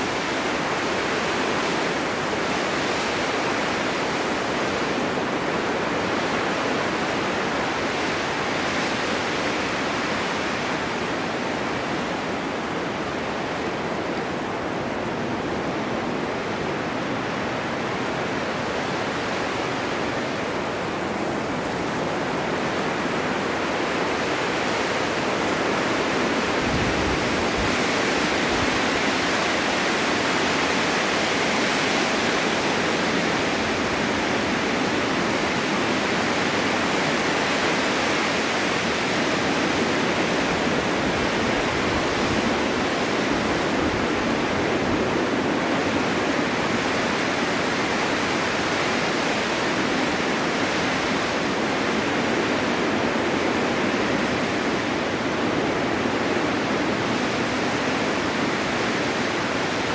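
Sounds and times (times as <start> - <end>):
wind blowing: 0.0 - 59.9.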